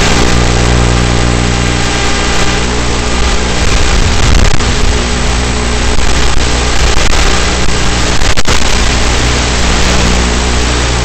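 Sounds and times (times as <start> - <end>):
model plane propeller motor: 0.0 - 11.0.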